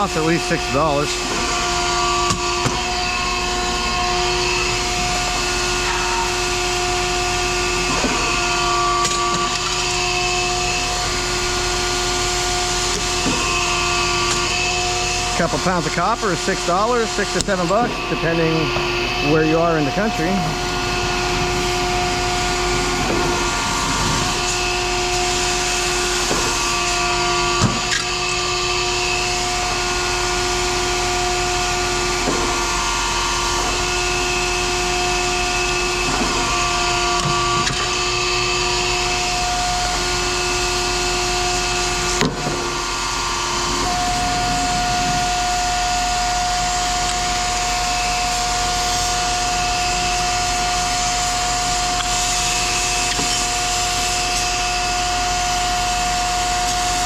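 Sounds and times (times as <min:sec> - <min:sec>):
machine motor whining: 0:00.0 - 0:57.0.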